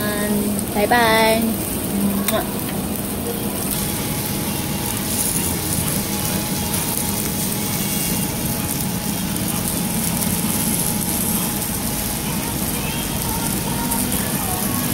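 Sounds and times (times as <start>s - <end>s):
meat sizzling on a grill: 0.0s - 14.9s.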